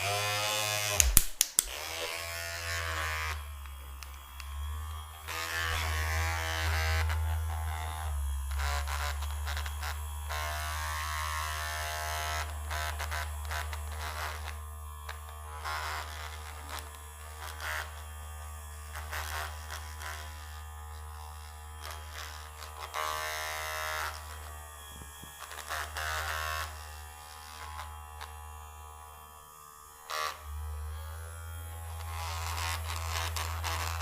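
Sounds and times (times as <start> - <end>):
electric massager buzzing: 0.0 - 34.0.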